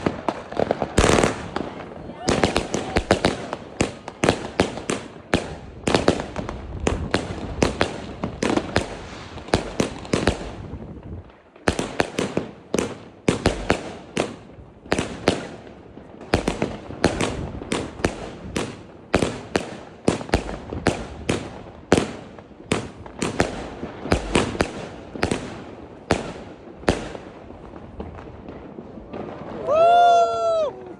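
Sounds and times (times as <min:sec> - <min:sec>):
firecrackers and fireworks banging: 0:00.0 - 0:30.9.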